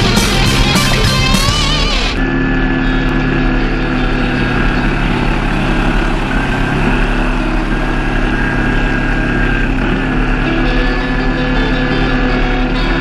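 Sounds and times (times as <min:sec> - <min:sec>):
motorcycle engine cruising: 0:00.0 - 0:13.0
wind and road rush: 0:01.8 - 0:13.0.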